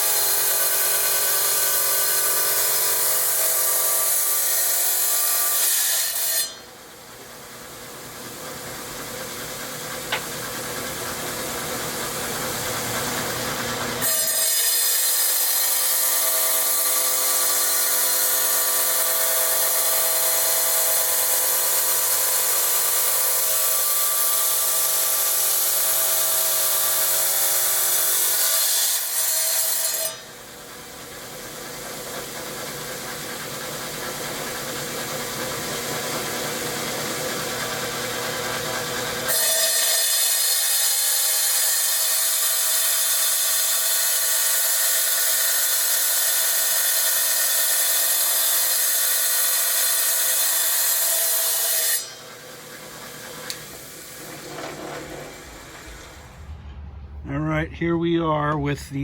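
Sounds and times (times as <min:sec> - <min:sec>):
tile saw motor whine: 0:00.0 - 0:28.4, 0:30.1 - 0:44.7, 0:45.3 - 0:56.6.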